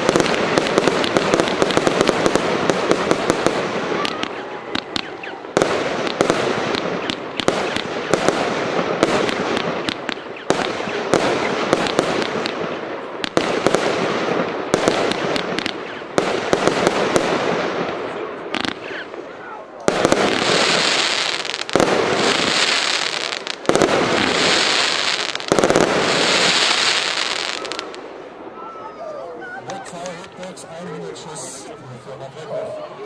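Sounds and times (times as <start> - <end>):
firework cake shots crackling: 0.0 - 28.0
heavy firework bangs: 0.0 - 28.6.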